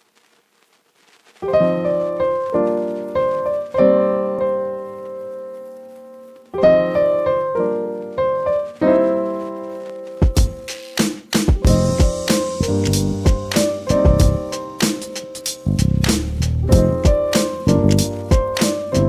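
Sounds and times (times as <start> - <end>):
slow piano music: 1.4 - 10.8, 11.6 - 19.0.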